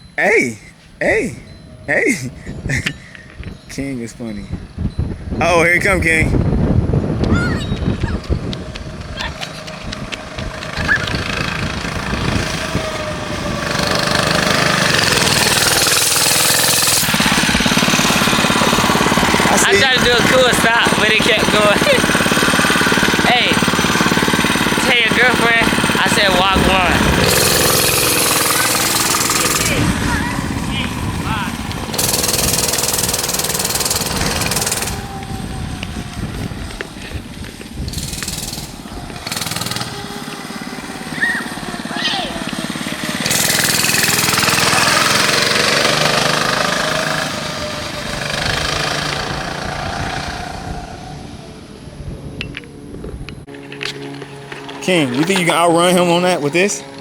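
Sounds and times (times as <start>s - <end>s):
mini bike engine running: 4.8s - 57.0s.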